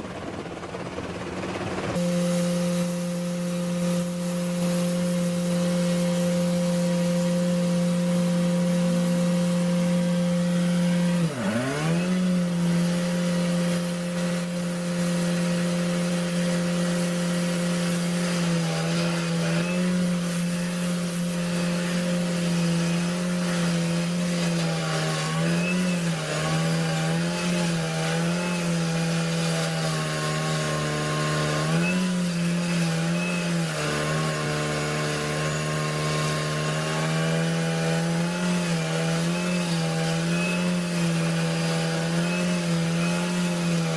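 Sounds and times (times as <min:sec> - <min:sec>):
power saw cutting wood: 0:01.5 - 0:43.9.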